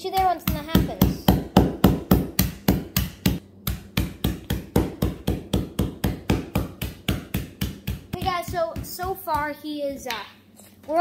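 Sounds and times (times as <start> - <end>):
mallet pounding charcoal on concrete: 0.0 - 9.6.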